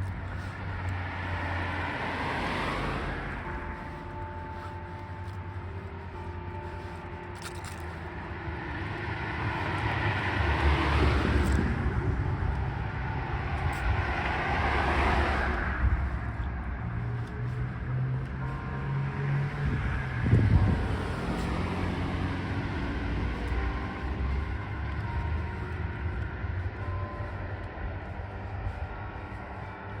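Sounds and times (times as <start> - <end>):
vehicles passing by: 0.0 - 30.0.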